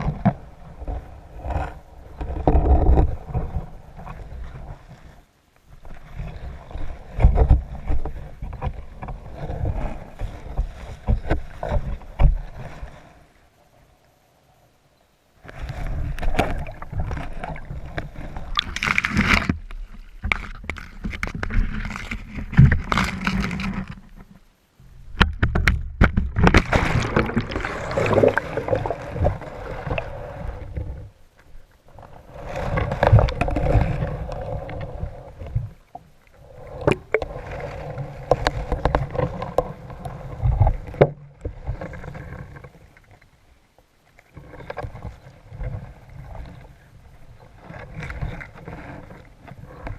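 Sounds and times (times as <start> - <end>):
muffled rushing water underwater: 0.0 - 49.9.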